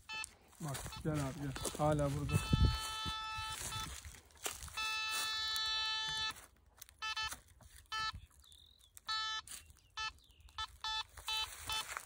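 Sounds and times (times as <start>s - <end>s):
metal detector beeping: 0.0s - 12.0s.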